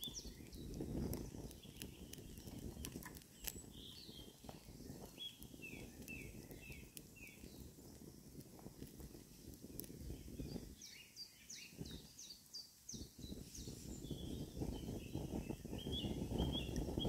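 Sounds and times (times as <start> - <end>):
small birds singing: 0.0 - 17.0
wood fire crackling: 0.0 - 17.0.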